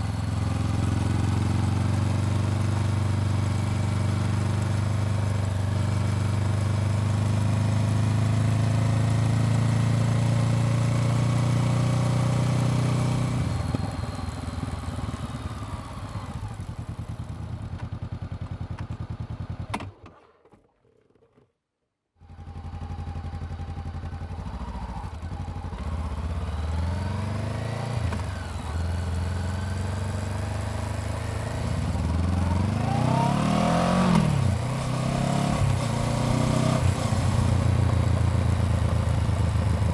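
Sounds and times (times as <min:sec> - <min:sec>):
motorcycle engine running and revving: 0:00.0 - 0:19.9, 0:22.2 - 0:39.9.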